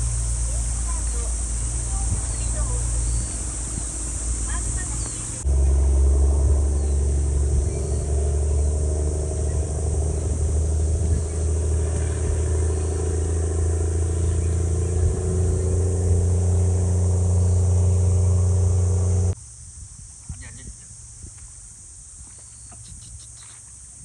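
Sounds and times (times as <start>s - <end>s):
boat engine drone: 0.0s - 19.4s.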